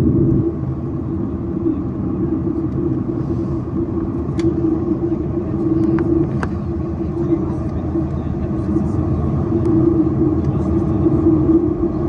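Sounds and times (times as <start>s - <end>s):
airplane cabin engine drone: 0.0s - 12.0s.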